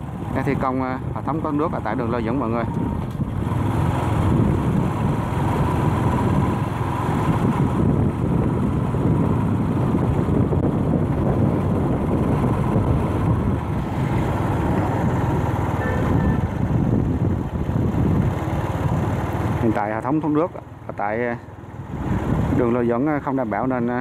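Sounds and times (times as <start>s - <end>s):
wind on microphone: 0.0s - 19.6s, 21.8s - 23.2s
motorbike engine: 0.0s - 24.0s
road noise: 0.0s - 24.0s.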